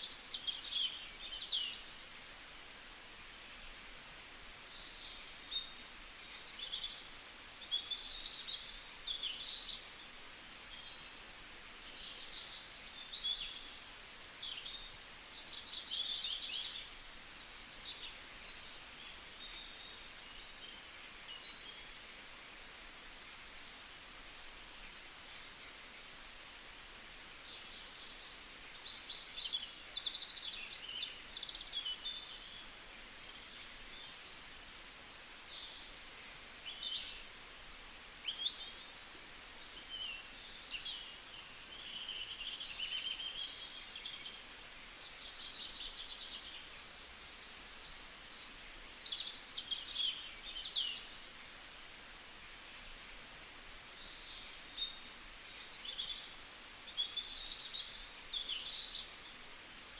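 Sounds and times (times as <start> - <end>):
background hiss: 0.0 - 59.9
small birds chirping: 0.0 - 59.9.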